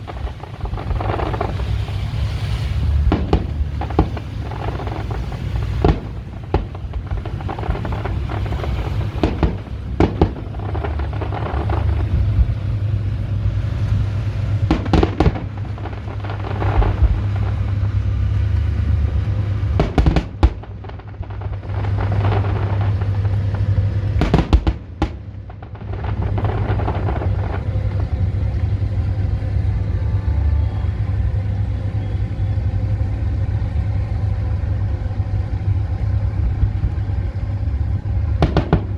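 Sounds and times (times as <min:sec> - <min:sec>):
fireworks exploding: 0:00.0 - 0:30.3, 0:36.0 - 0:38.9
low rumble: 0:00.0 - 0:38.9.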